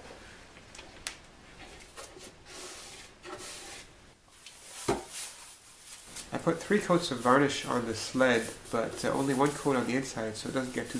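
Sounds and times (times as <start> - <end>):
soft rubbing and shuffling: 1.4 - 10.9.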